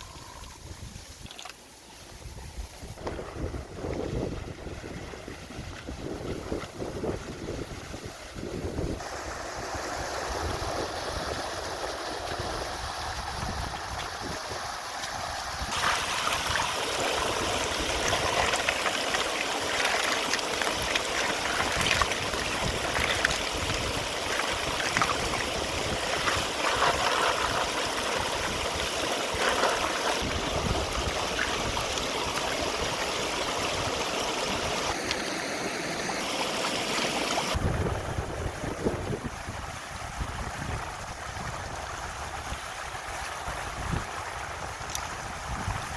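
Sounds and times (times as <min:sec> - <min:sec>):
stream water rushing and gurgling: 0:00.0 - 0:45.9.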